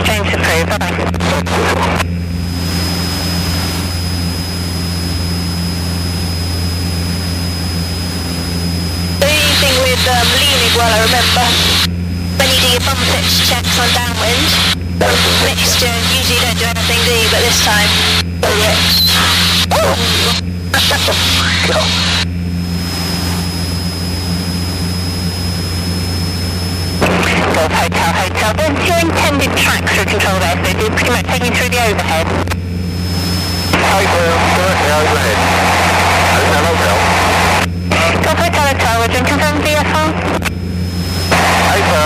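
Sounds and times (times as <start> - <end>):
propeller plane engine droning: 0.0 - 42.0.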